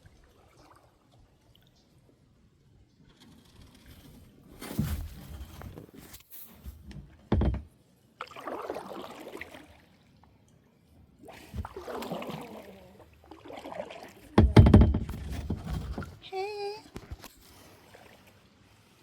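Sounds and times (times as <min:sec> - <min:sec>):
water sloshing and splashing: 0:00.0 - 0:02.2, 0:03.2 - 0:10.4, 0:11.0 - 0:19.0.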